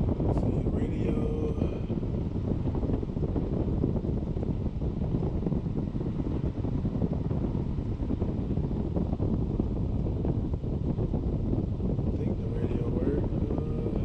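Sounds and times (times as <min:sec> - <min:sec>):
car air conditioning blower rushing: 0:00.0 - 0:14.0.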